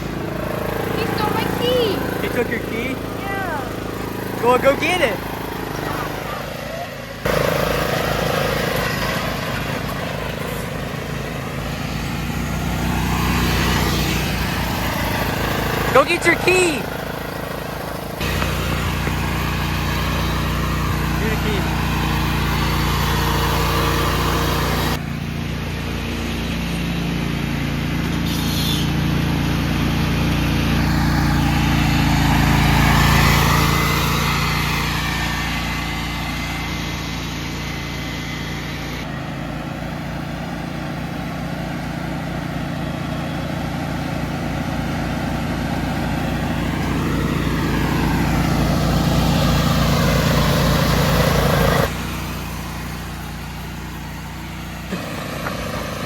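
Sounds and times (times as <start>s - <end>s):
riding lawn mower engine: 0.0s - 56.0s.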